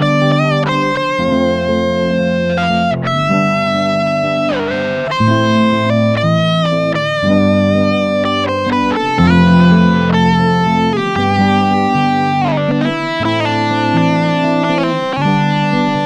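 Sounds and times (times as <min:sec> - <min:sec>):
electric guitar melody: 0:00.0 - 0:16.0
steady bass: 0:00.0 - 0:16.0.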